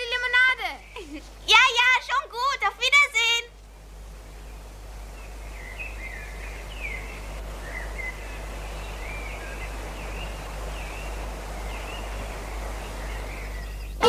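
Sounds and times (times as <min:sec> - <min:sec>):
background hiss: 0:00.0 - 0:14.0
birds chirping: 0:00.0 - 0:14.0.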